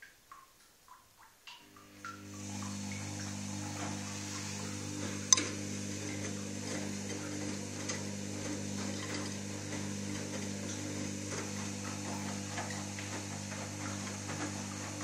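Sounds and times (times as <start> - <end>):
washing machine motor hum: 1.4 - 15.0.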